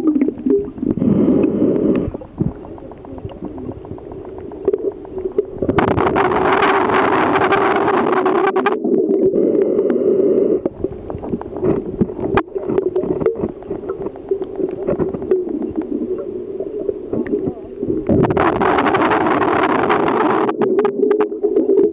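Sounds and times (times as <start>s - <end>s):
rushing water noise: 0.0s - 9.6s, 10.3s - 21.9s
muffled underwater hum: 0.0s - 21.9s
underwater clicks and knocks: 1.9s - 8.7s, 10.6s - 21.8s.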